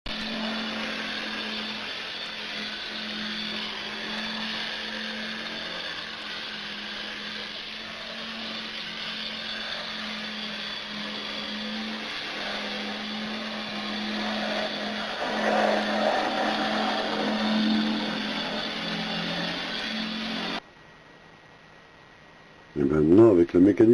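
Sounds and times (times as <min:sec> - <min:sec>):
model train motor whirring: 0:00.1 - 0:20.6.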